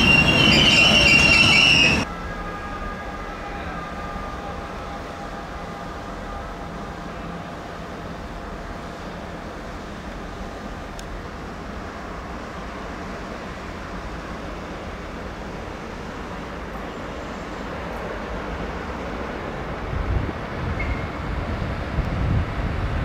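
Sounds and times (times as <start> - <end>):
train rumbling through station: 0.0 - 23.0.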